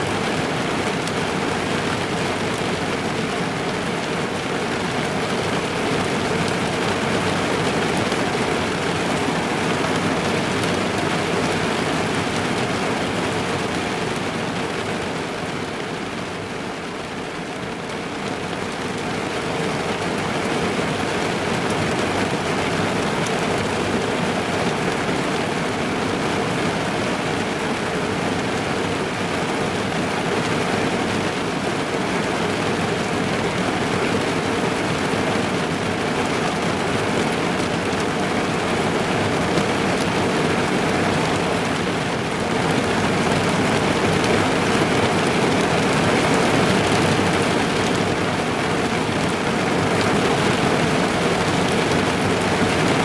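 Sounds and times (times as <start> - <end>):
heavy rain on car roof: 0.0 - 53.0.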